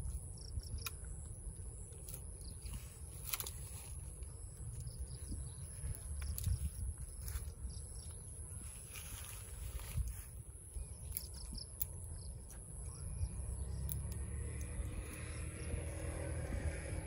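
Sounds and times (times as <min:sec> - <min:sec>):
high insect drone: 0:00.0 - 0:17.0
low wind rumble on microphone: 0:00.0 - 0:17.0.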